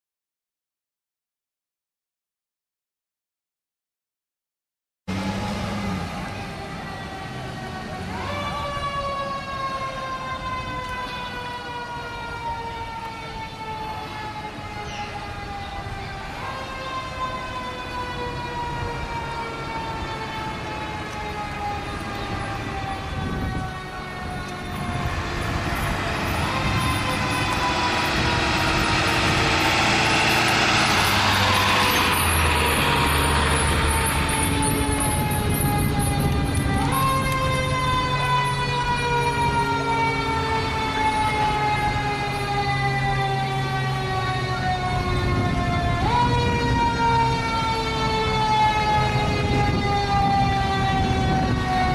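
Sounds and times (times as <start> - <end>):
emergency vehicle siren wailing: 5.1 - 51.9.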